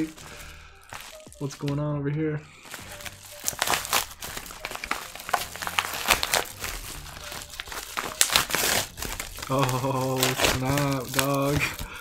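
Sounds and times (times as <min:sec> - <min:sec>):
envelope crinkling and rustling: 0:00.0 - 0:01.8, 0:02.6 - 0:12.0.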